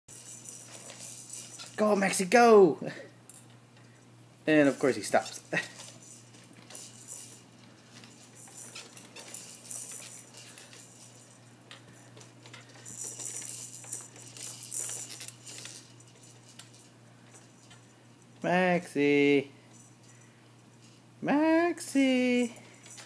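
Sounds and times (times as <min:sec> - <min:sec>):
faint rattling and rustling: 0:00.1 - 0:23.0
steady low hum: 0:00.1 - 0:23.0.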